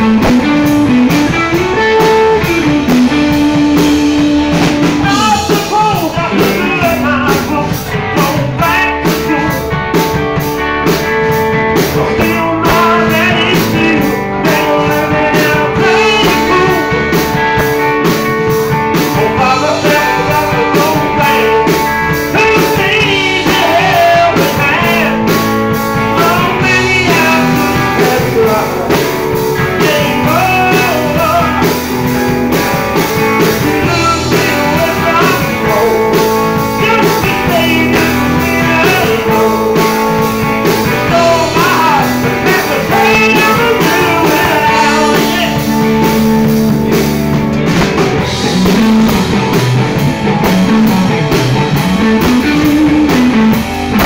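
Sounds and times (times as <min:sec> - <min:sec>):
man singing: 0:00.0 - 0:46.6, 0:51.7 - 0:54.0
drum kit: 0:00.0 - 0:54.0
electric guitars: 0:00.0 - 0:54.0.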